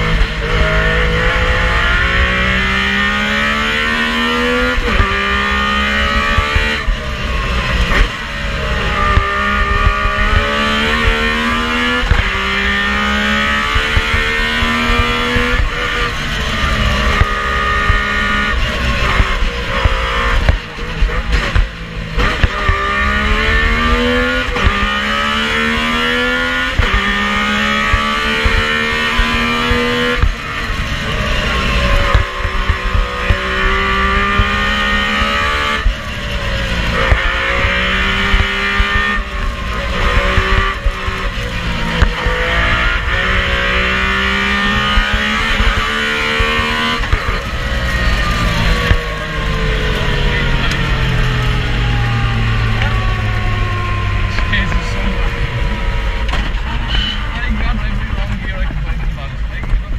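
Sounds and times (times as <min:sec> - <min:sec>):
rally car engine revving through gears: 0:00.0 - 0:59.9.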